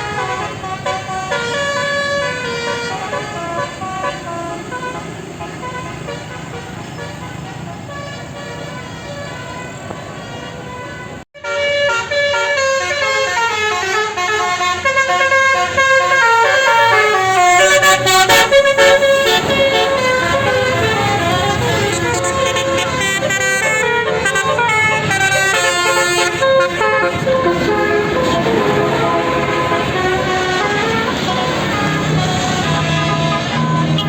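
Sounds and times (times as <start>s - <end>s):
bus musical horn melody: 0.0s - 34.0s.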